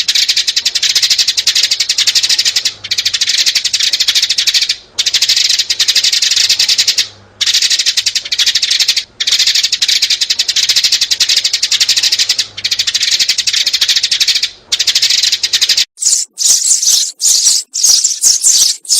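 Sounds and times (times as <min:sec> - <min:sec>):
sparrows chirping: 0:00.0 - 0:18.9.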